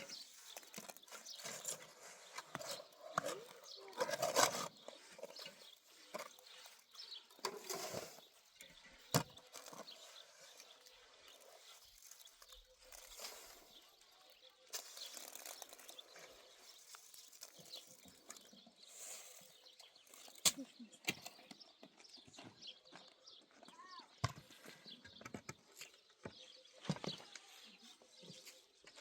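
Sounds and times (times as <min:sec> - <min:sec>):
farm animal noises: 0:00.0 - 0:29.0.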